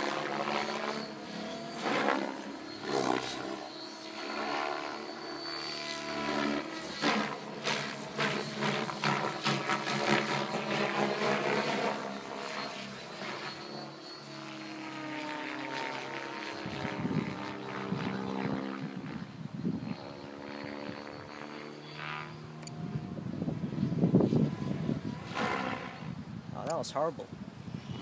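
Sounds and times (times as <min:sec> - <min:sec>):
rc helicopter rotor and motor hum: 0:00.0 - 0:28.0.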